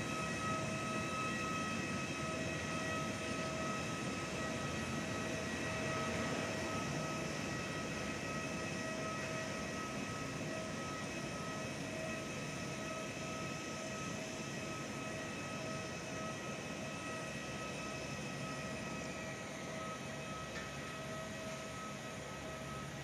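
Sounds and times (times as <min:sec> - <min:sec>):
jet engines idling with whine: 0:00.0 - 0:23.0.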